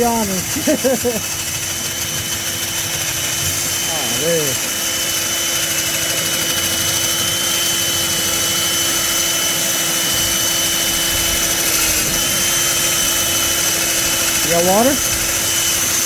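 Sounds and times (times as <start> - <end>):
core drill grinding through concrete: 0.0 - 16.0.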